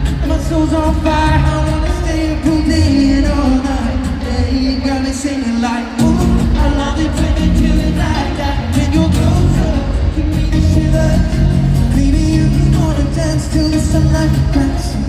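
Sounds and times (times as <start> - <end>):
live pop band with singing: 0.0 - 15.0.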